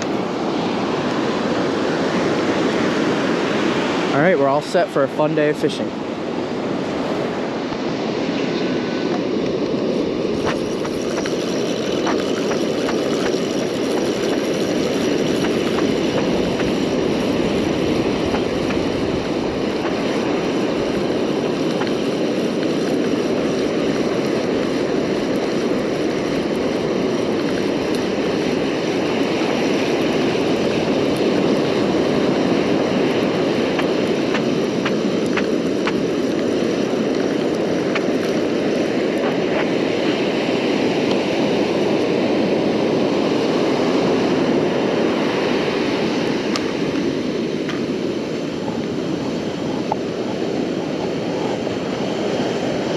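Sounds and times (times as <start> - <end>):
ocean surf breaking: 0.0 - 52.9.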